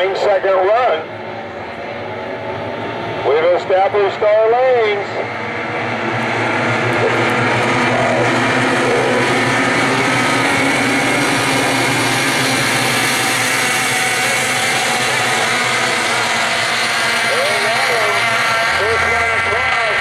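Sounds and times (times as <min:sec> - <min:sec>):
outboard motors buzzing: 0:00.0 - 0:20.0.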